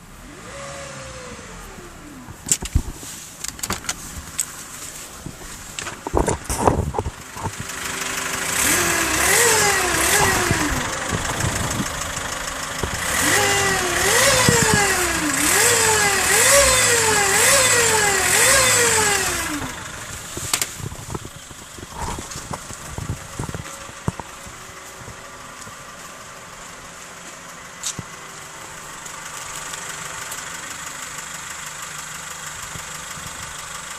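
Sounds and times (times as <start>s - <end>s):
car engine revving and idling: 0.0s - 33.9s.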